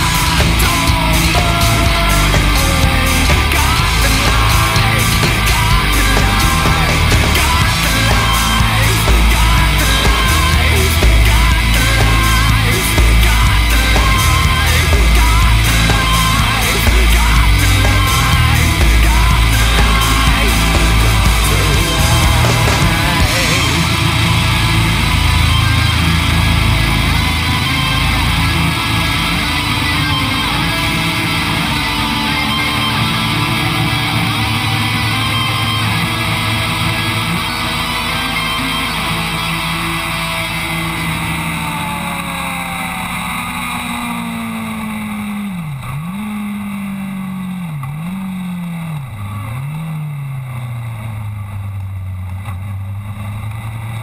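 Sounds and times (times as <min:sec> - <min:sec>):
motorcycle engine at speed: 0:00.0 - 0:54.0
rock music with electric guitar: 0:00.0 - 0:54.0.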